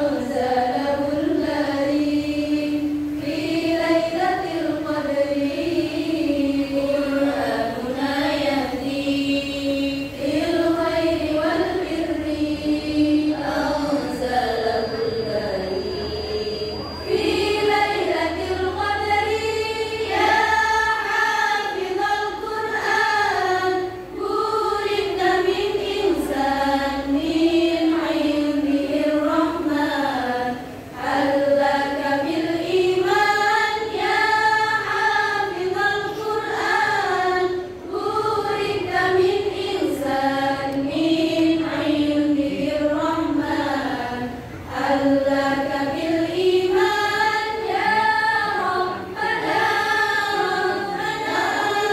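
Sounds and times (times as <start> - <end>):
women's choir singing: 0.0 - 51.9.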